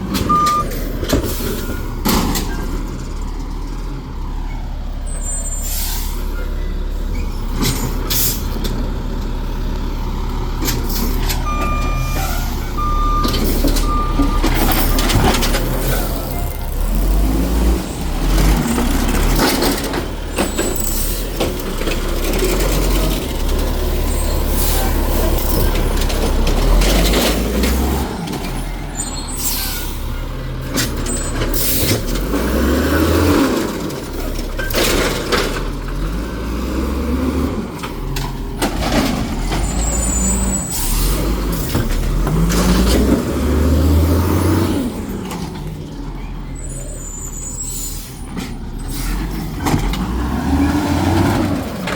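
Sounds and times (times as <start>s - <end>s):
garbage truck engine revving: 0.0s - 51.9s.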